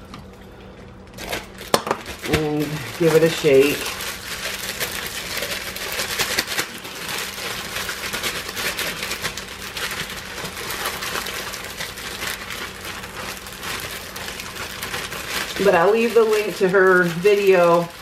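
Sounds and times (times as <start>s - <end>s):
plastic bag rustling: 1.1s - 18.0s.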